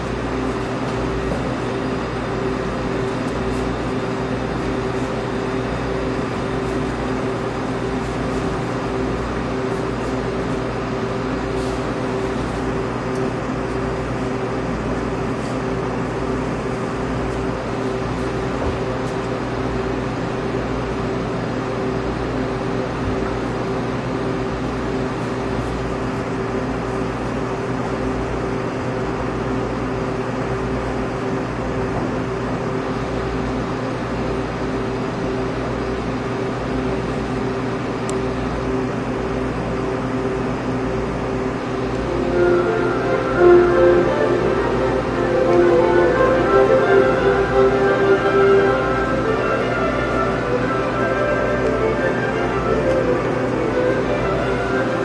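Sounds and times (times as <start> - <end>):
steady droning hum: 0.0 - 55.0.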